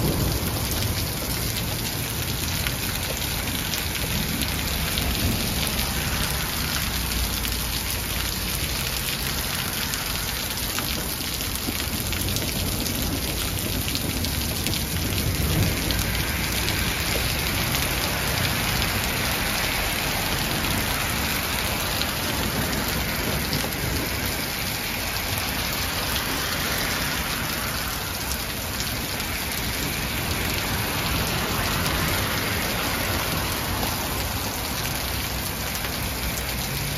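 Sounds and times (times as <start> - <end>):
hail and rain pattering: 0.0 - 36.9.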